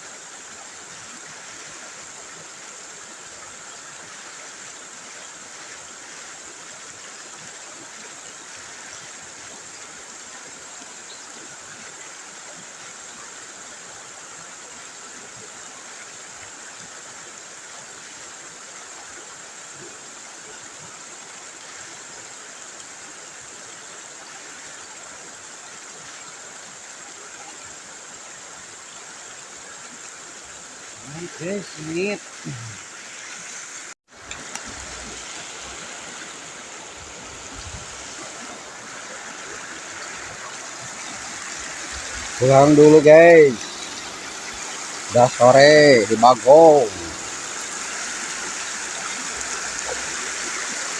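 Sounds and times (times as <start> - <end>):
river water flowing over rocks: 0.0 - 50.9.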